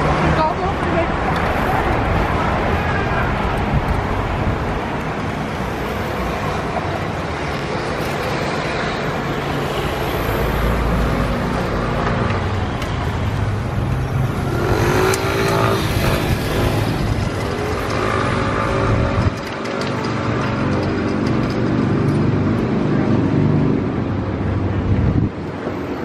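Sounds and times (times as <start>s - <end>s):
urban traffic noise: 0.0s - 26.0s.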